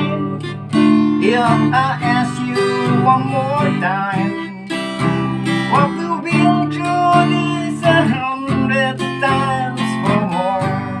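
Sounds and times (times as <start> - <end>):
acoustic guitar strumming: 0.0 - 11.0
person singing: 0.0 - 11.0.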